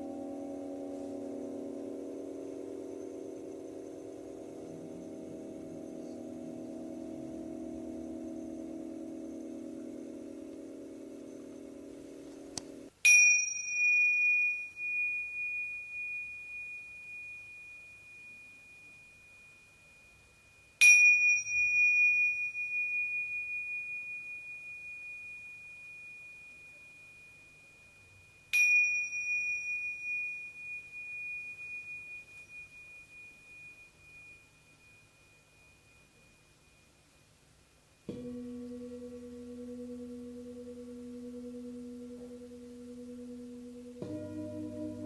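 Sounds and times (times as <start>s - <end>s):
small cymbals ringing: 0.0s - 45.0s.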